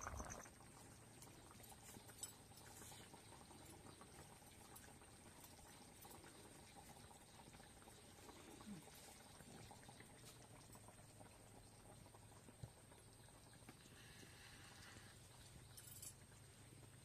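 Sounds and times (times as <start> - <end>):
pot of food bubbling: 0.0 - 17.0.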